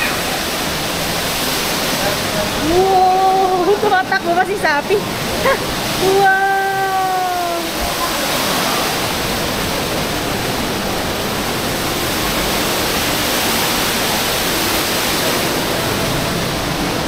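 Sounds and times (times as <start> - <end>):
indoor waterfall rushing: 0.0 - 17.0.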